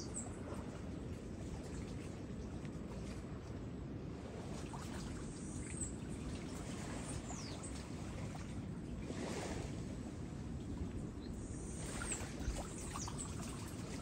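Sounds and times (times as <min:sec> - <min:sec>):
seawater lapping and trickling: 0:00.0 - 0:14.0.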